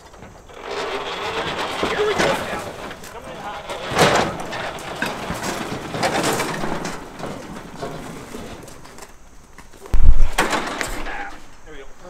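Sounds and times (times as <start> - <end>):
tyres rolling over wooden and steel ramp: 0.0 - 11.9.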